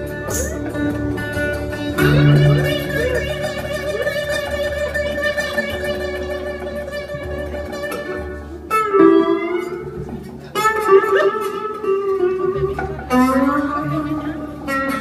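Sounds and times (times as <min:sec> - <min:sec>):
blues band playing: 0:00.0 - 0:15.0
lead guitar bending notes: 0:00.0 - 0:15.0.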